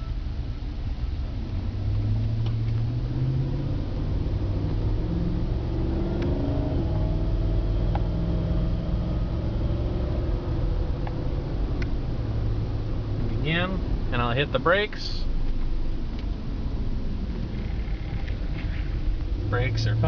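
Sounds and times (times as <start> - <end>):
car engine and tyres while driving: 0.0 - 20.0.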